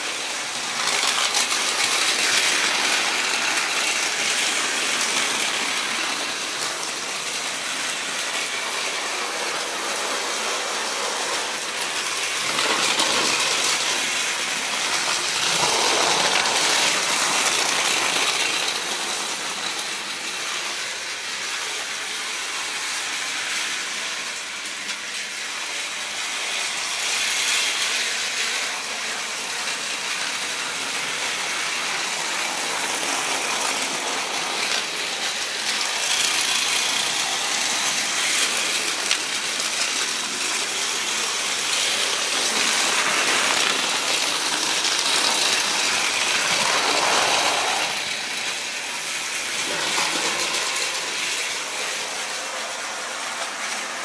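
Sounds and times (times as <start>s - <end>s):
toy train motor whirring: 0.0s - 54.0s.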